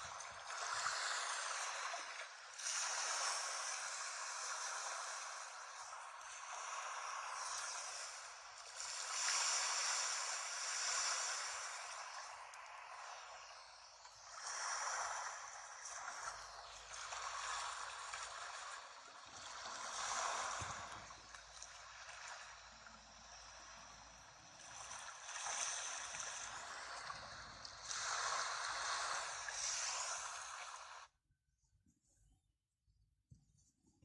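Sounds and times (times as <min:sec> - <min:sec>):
sea waves washing onto shore: 0:00.0 - 0:31.0.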